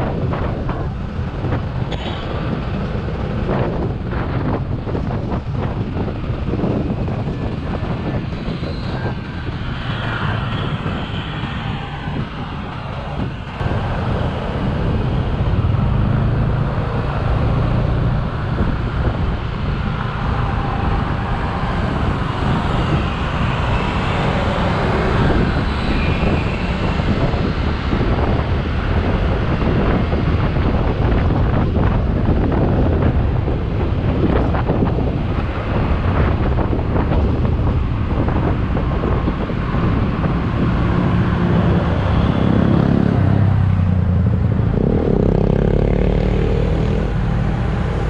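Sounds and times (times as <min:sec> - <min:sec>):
road and wind noise: 0:00.0 - 0:48.0.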